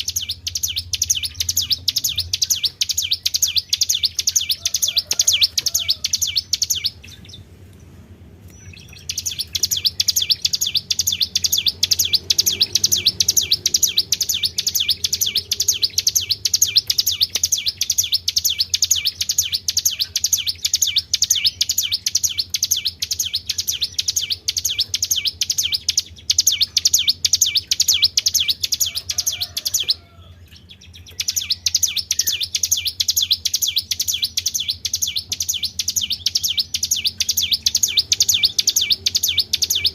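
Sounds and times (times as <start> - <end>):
songbird high-pitched trill: 0.0 - 7.4, 8.5 - 39.9.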